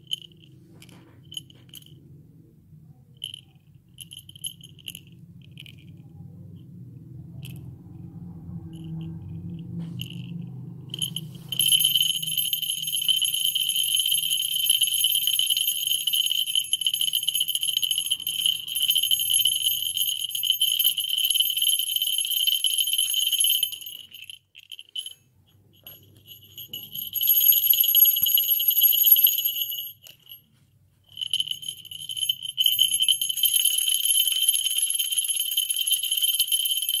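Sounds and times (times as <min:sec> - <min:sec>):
small bell ringing: 0:00.0 - 0:02.2, 0:02.9 - 0:06.6, 0:07.2 - 0:37.0.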